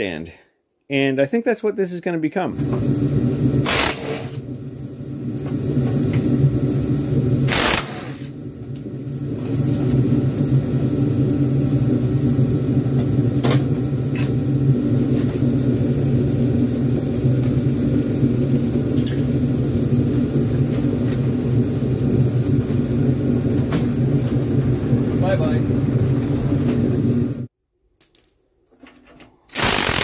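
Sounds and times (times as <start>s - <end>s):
low mechanical hum: 2.4s - 27.5s.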